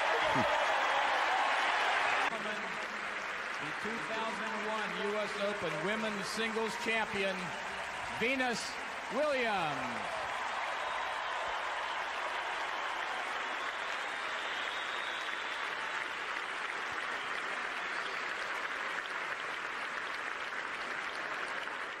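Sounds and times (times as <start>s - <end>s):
stadium crowd applauding: 0.0s - 22.0s.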